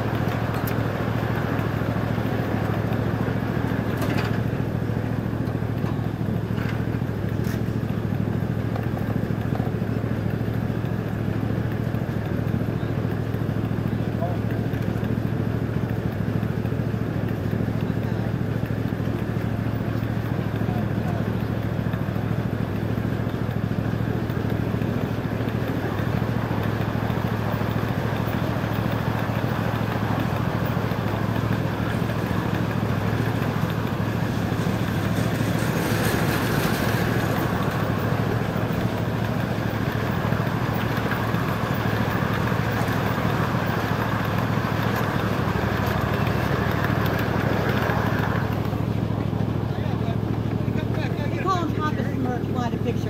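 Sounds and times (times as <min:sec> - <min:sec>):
miniature train rumbling on rails: 0:00.0 - 0:53.0.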